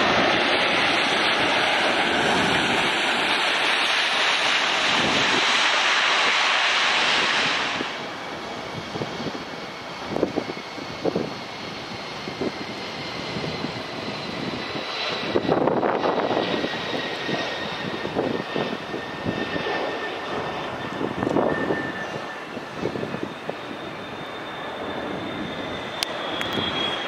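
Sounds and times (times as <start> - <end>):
gusty rushing air: 0.0 - 23.6
jet engines whining: 0.0 - 27.0.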